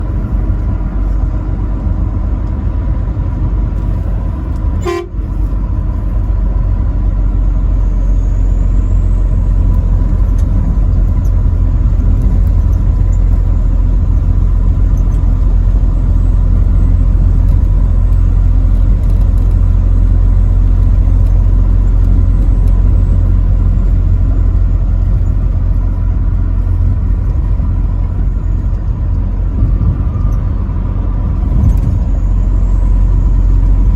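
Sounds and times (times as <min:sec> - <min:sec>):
truck engine and road noise: 0:00.0 - 0:33.9.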